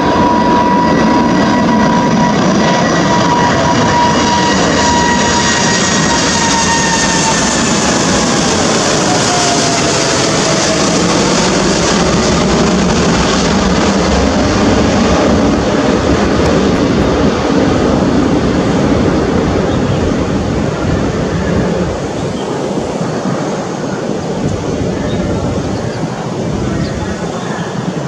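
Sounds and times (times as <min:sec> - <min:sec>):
jet engine roar with whine: 0:00.0 - 0:28.0.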